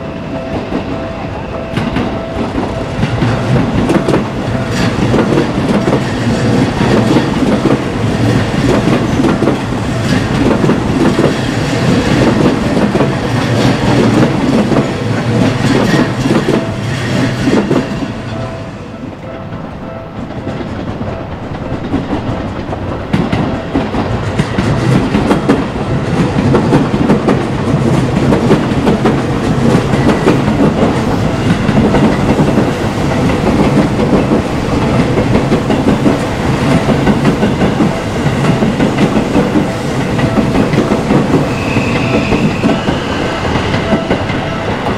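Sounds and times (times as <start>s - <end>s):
train wheels clattering over rail joints: 1.8s - 18.0s, 20.4s - 44.9s.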